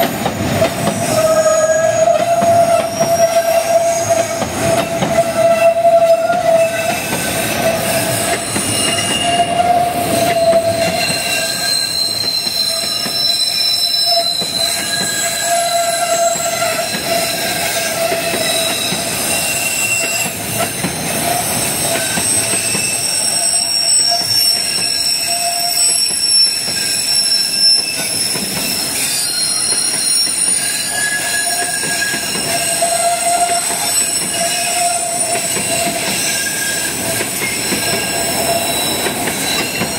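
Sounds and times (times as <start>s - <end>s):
train wheels clattering on rails: 0.0s - 39.9s
wheels squealing against rails: 0.0s - 39.9s.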